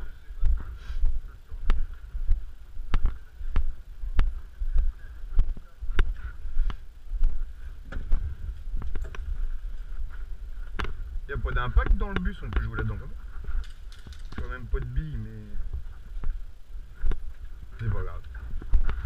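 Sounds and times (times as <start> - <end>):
footsteps on rough ground: 0.0 - 19.0
low wind rumble: 0.0 - 19.0
microphone handling noise: 0.0 - 19.0.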